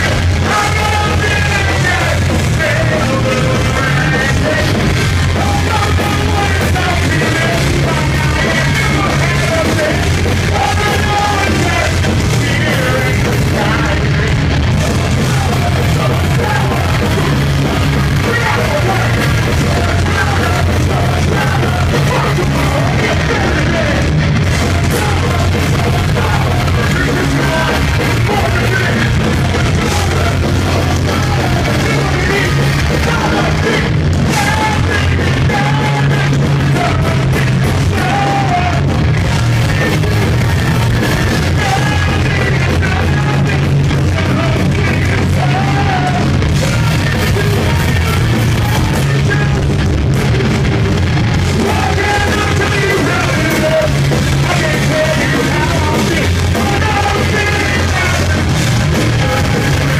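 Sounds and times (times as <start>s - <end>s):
person shouting singing: 0.0s - 59.9s
punk band playing live: 0.0s - 59.9s.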